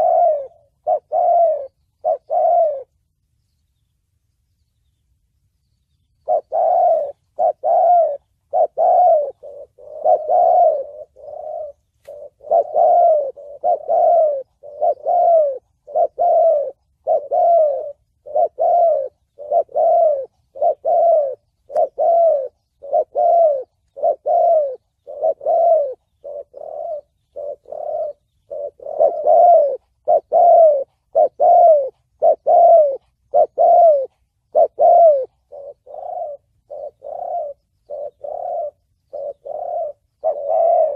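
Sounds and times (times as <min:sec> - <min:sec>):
dove cooing: 0:00.0 - 0:03.1, 0:06.2 - 0:40.9.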